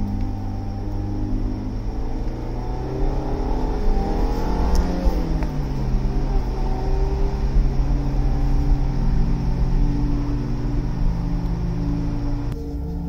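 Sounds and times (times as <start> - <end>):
road and wind rumble: 0.0 - 13.0
vehicle engine running: 0.0 - 13.0.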